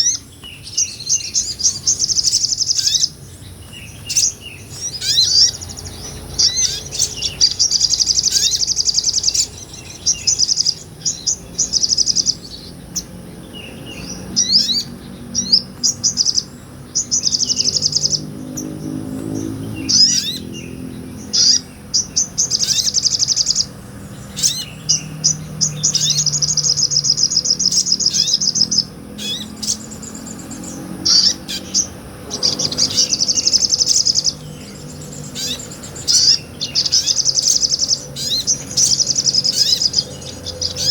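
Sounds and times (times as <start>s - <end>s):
bird chirps and call notes: 0.0s - 40.9s
bird singing high trills: 0.0s - 40.9s.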